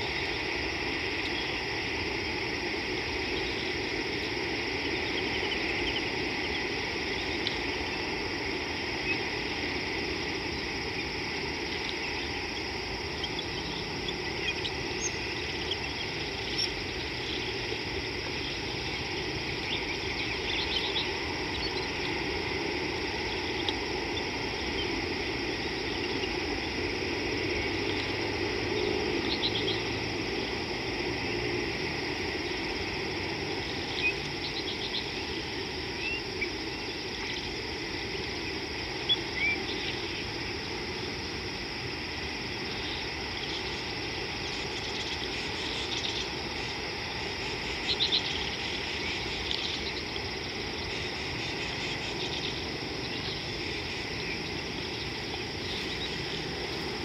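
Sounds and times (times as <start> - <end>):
river hiss: 0.0 - 57.0.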